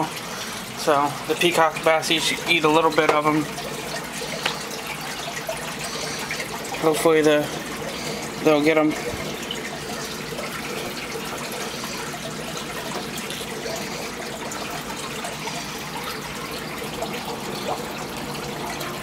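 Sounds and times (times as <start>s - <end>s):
aquarium bubbling water: 0.0s - 19.0s.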